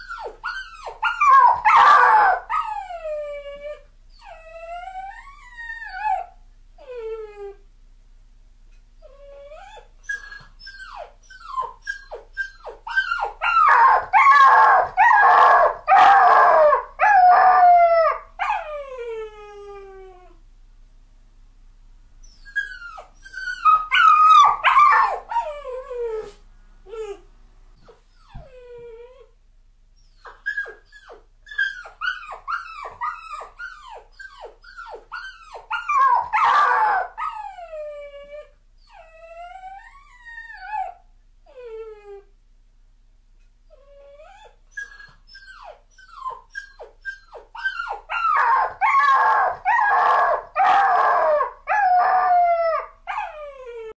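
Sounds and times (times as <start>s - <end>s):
puppy whimpering and whining: 0.0s - 7.6s, 9.0s - 20.4s, 22.2s - 29.4s, 30.0s - 42.3s, 43.7s - 53.9s.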